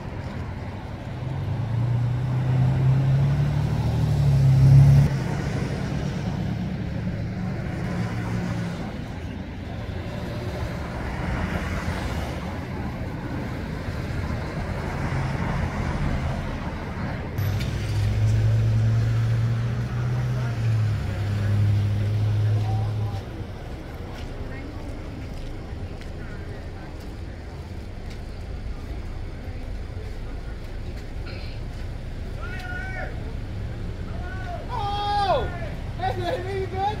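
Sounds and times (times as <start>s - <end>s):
vehicle engine running close by: 0.0s - 32.4s
street traffic noise: 0.0s - 37.0s.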